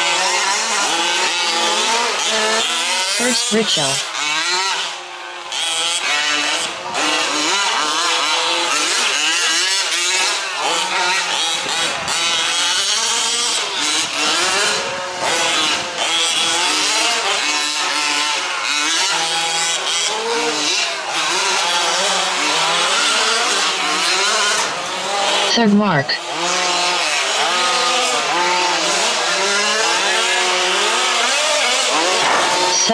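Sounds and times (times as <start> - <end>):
small two-stroke engines buzzing: 0.0 - 32.9.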